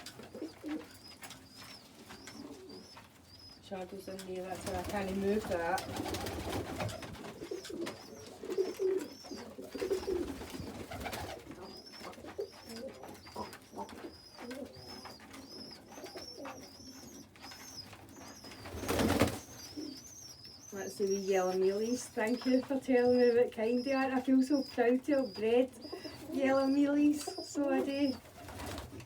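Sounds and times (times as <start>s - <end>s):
beaks pecking at seed: 0.0s - 29.0s
pigeons cooing: 0.0s - 29.0s
young pigeons peeping: 0.0s - 29.0s.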